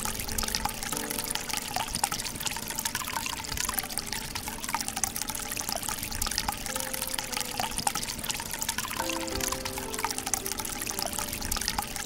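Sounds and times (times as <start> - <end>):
water trickling into fountain basin: 0.0 - 12.0.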